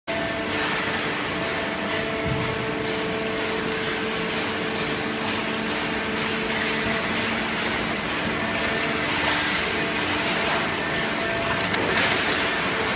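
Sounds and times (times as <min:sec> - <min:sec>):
baler machine din with humming tones: 0:00.1 - 0:12.9.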